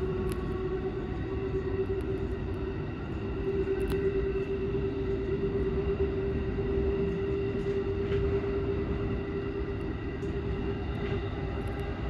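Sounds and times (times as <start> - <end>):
electric train rumble: 0.0 - 12.0
train motor whine: 0.0 - 12.0.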